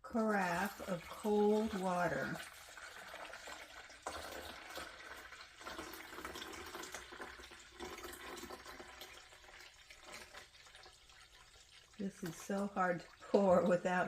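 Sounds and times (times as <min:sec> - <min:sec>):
water pouring into reservoir: 0:00.0 - 0:14.0.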